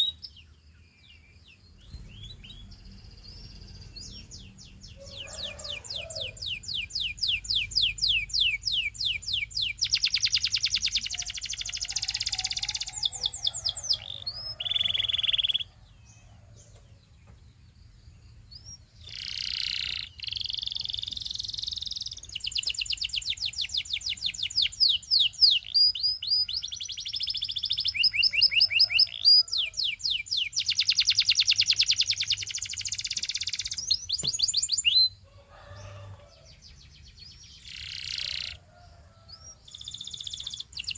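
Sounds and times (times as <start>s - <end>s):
canary singing trills: 0.0s - 17.7s, 18.3s - 40.9s.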